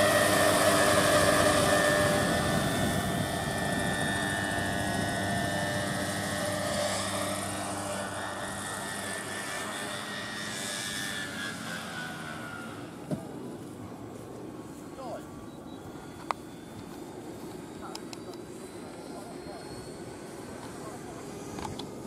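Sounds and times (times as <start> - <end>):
helicopter rotor noise: 0.0 - 22.0
model helicopter drive whine: 0.0 - 22.0.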